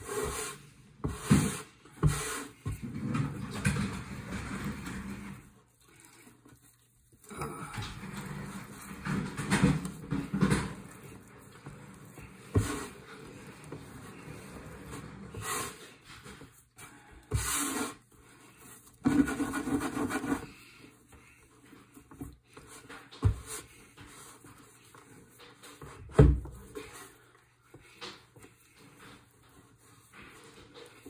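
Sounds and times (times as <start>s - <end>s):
dough kneaded by hand: 0.0s - 31.0s.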